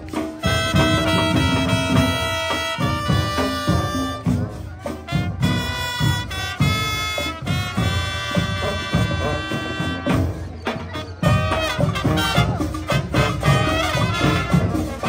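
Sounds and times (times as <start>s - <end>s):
horns holding chords: 0.0s - 15.0s
steady drum beat: 0.0s - 15.0s.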